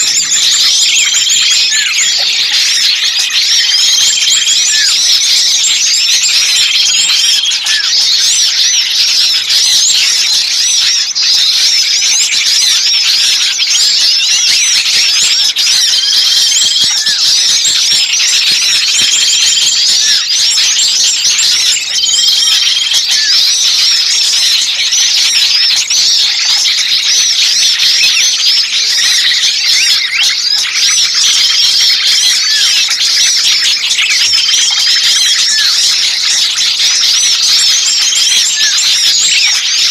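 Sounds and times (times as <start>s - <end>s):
songbirds chattering and calling: 0.0s - 39.9s.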